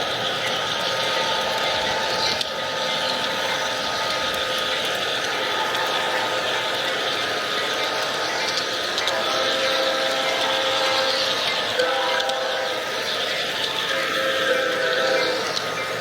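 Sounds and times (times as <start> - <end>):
model train motor whine: 0.0 - 16.0.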